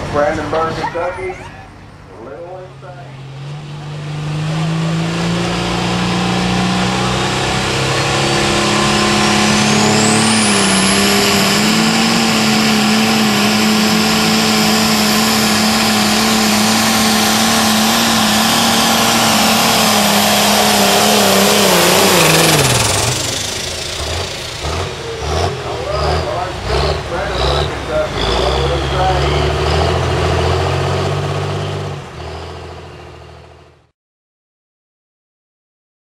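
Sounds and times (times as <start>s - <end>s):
high turbo whine: 0.0s - 33.6s
tractor diesel engine at full throttle: 0.0s - 33.9s.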